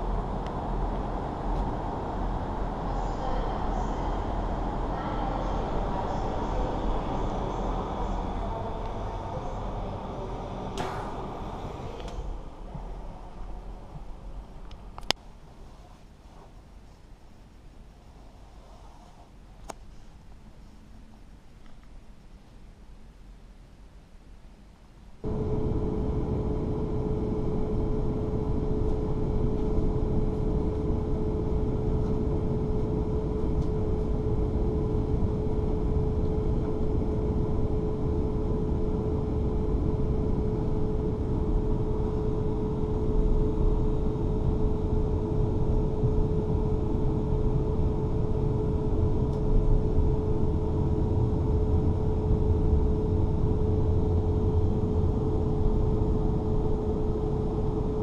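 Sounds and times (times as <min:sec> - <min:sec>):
train electrical hum: 0:00.0 - 0:58.0.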